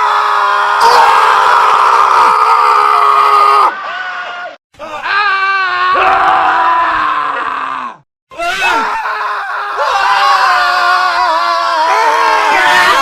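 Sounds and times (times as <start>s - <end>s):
men screaming: 0.0s - 13.0s.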